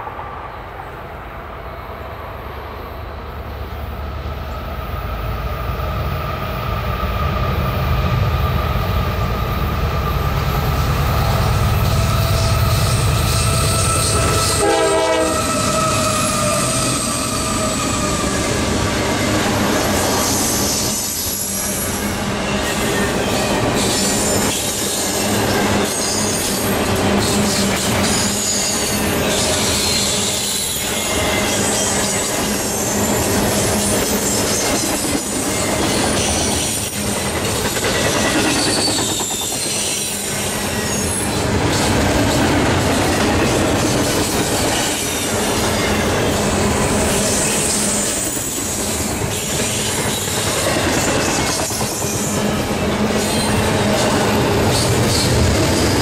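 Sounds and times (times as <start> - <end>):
freight train rolling and clattering: 0.0 - 56.0.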